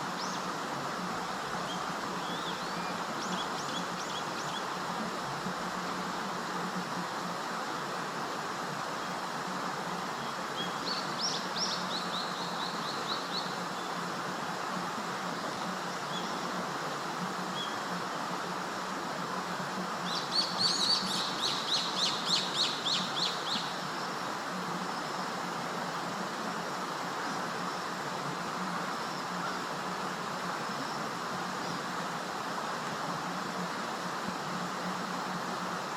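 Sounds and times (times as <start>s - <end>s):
steady background hiss: 0.0s - 35.9s.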